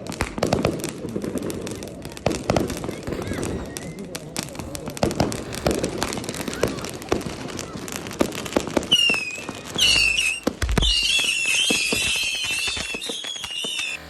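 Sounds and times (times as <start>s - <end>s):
deep firework boom: 0.0s - 14.0s
firecrackers cracking: 0.0s - 14.0s
firework whistles: 0.0s - 14.0s.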